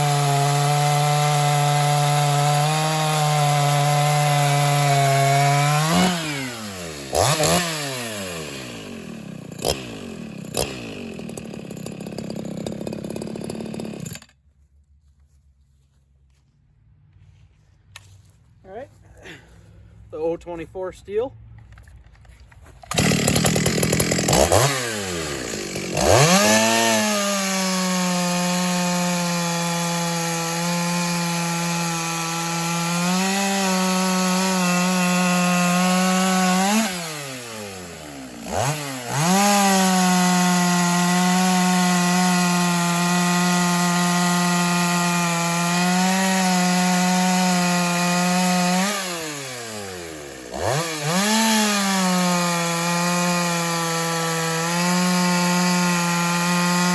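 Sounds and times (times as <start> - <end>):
chainsaw engine revving up: 0.0 - 14.3, 22.9 - 56.9
chainsaw cutting wood: 0.0 - 14.4, 22.7 - 56.9.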